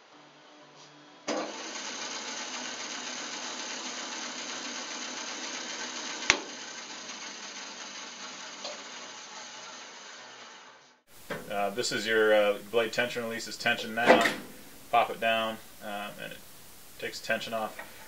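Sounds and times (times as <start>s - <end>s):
bandsaw running: 0.0s - 18.0s.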